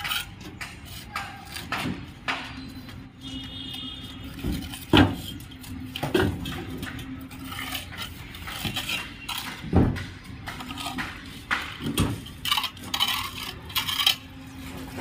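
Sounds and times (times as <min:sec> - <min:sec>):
hard objects clinking and knocking: 0:00.0 - 0:15.0.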